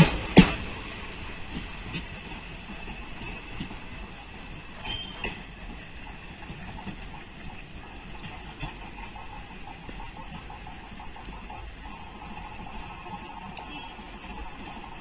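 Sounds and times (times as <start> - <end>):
rail clicks: 0.0 - 15.0
train rumbling on rails: 0.0 - 15.0.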